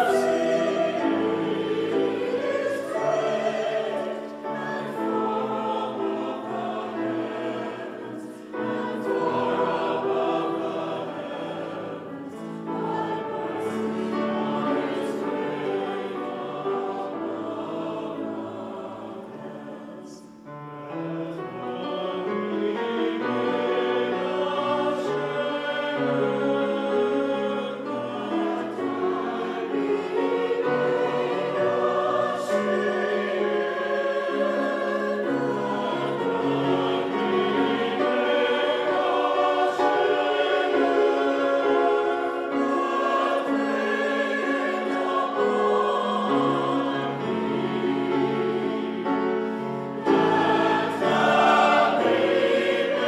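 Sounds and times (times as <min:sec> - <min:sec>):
choir singing: 0:00.0 - 0:53.0
piano accompaniment: 0:00.0 - 0:53.0.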